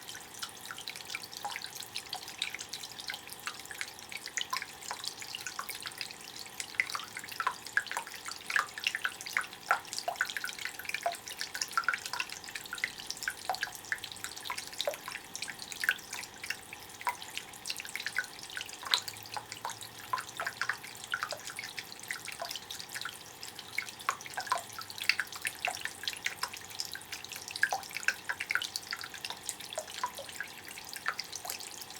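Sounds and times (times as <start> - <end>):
water trickling and dripping on stone: 0.0 - 31.9.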